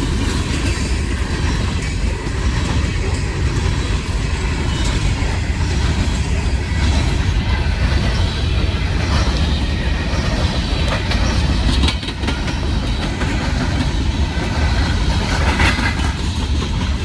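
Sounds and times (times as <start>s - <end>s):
train cars rumbling past: 0.0s - 17.0s
wheel clatter over rails: 0.0s - 17.0s.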